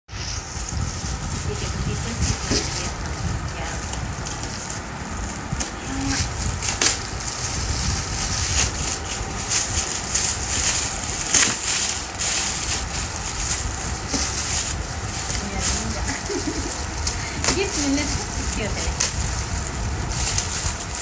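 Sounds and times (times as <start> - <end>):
gift wrap crinkling and tearing: 0.1 - 21.0.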